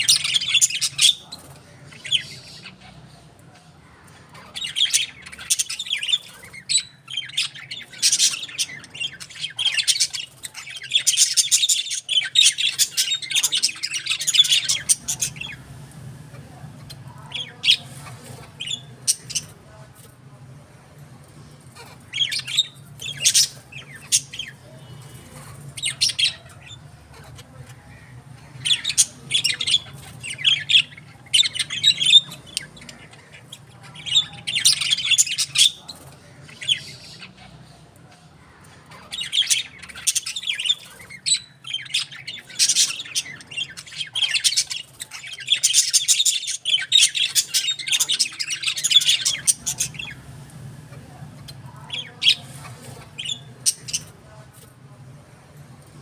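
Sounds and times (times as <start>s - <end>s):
birds chirping and squawking: 0.0s - 56.0s.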